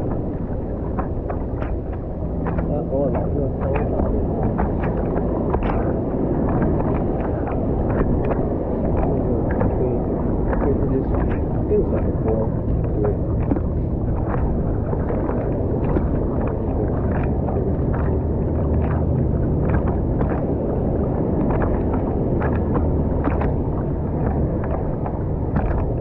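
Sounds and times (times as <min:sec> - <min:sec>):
water splashing against surfboard: 0:00.0 - 0:26.0
wind rumble on microphone: 0:00.0 - 0:26.0.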